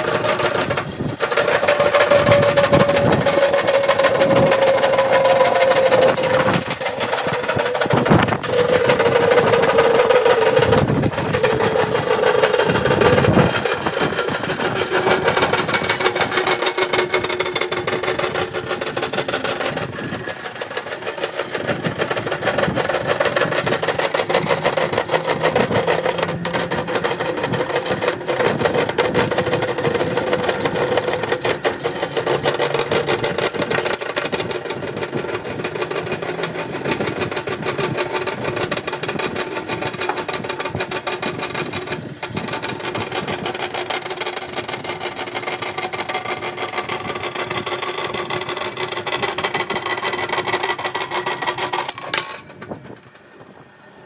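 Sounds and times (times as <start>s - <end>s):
cutting machine cutting steel: 0.0s - 53.2s.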